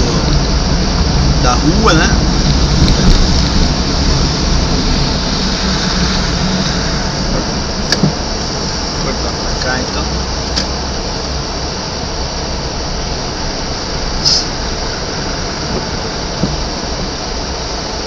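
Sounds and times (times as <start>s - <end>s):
engine and road rumble: 0.0s - 18.0s
tyres hissing on wet road: 0.0s - 18.0s.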